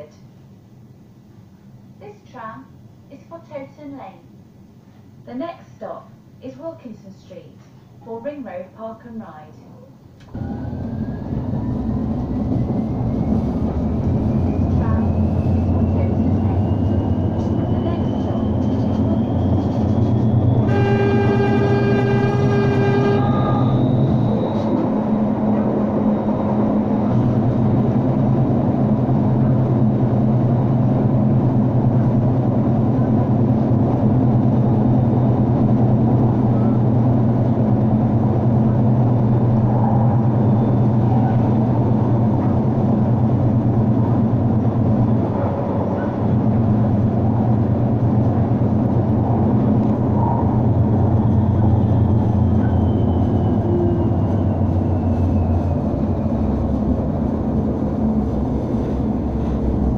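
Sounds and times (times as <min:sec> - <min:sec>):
tram hum and rumble: 0:08.8 - 0:59.9.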